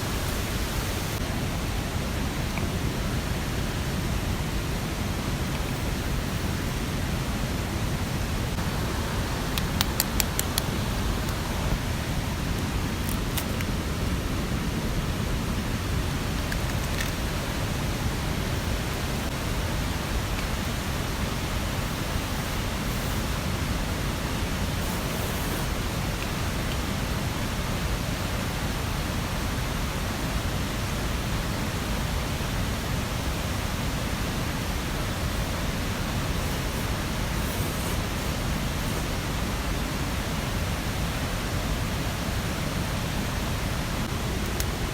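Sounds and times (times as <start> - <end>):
mountain stream rushing: 0.0 - 44.9
rain: 0.0 - 44.9.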